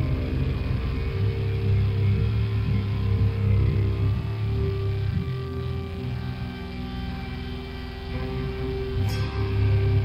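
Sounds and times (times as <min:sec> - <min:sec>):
electric guitar notes ringing: 0:00.0 - 0:10.0
live metal band playing: 0:00.0 - 0:10.0.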